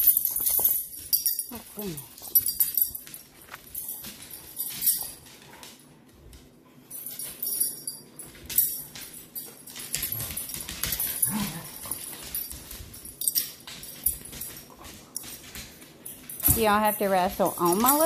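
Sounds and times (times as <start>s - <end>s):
collar tags jingling: 0.0s - 5.8s, 6.8s - 18.0s
dog paws scuffling on hardwood floor: 0.0s - 18.0s.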